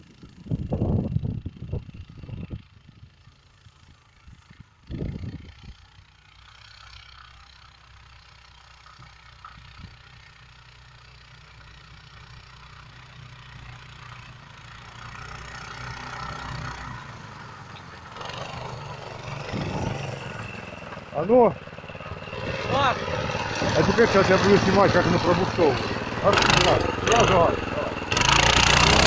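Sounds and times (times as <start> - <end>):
small snowmobile engine running: 0.0 - 29.0.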